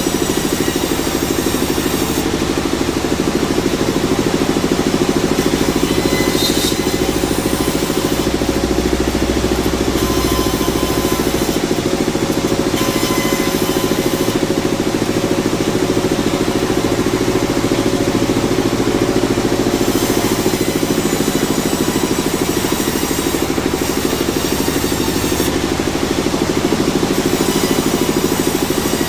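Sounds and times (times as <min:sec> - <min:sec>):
sawmill machinery drone: 0:00.0 - 0:29.0.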